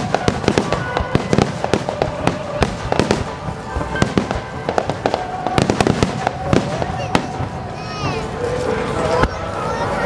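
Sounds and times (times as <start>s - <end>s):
continuous rumble: 0.0s - 10.0s.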